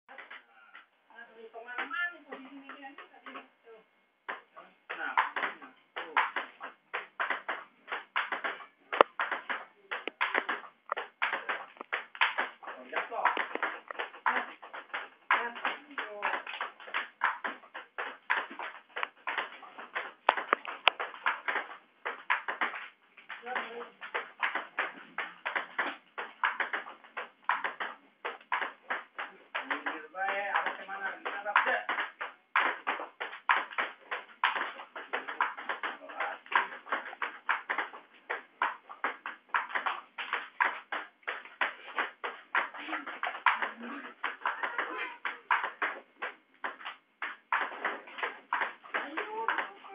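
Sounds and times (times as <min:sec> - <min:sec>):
table tennis ball hits: 0:04.3 - 0:49.8.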